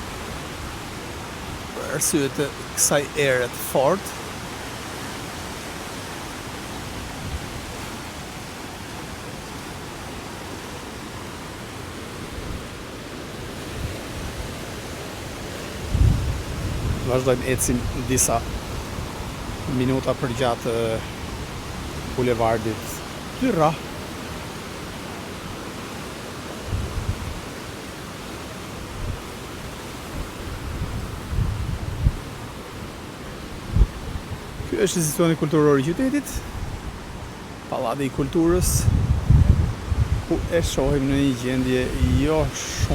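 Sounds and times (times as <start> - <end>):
strong wind blowing: 0.0 - 9.6, 10.4 - 25.7, 26.5 - 27.6, 28.7 - 42.9.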